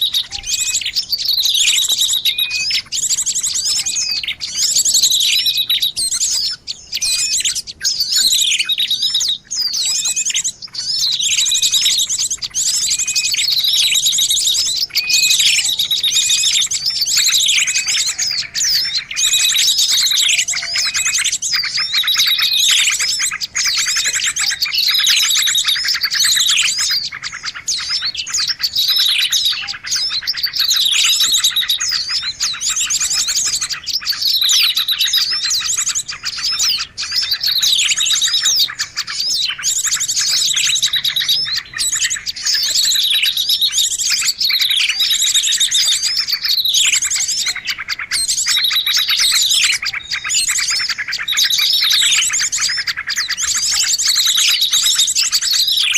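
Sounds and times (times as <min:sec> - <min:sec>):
small birds chirping and trilling: 0:00.0 - 0:55.9.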